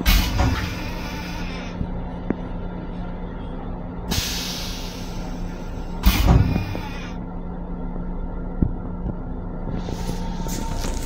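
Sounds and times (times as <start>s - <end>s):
train hum and rumble: 0.0s - 11.0s.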